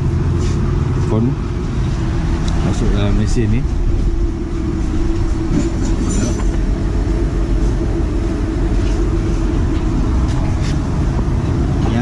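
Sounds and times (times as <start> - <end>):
recovery machine humming: 0.0 - 12.0.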